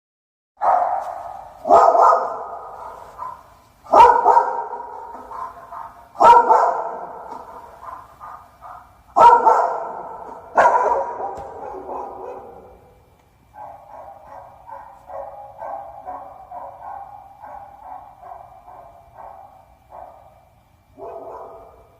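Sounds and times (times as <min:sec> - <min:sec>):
dog barking with echo: 0:00.6 - 0:21.9.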